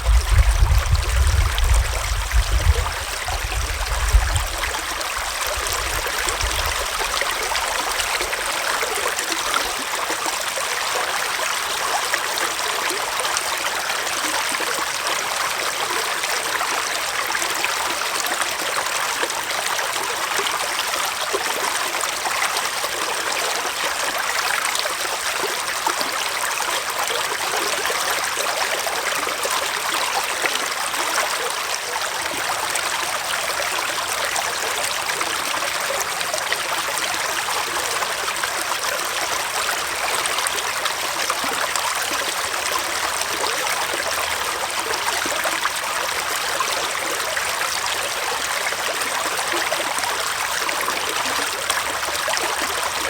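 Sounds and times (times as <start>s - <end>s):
stream babbling: 0.0s - 53.0s.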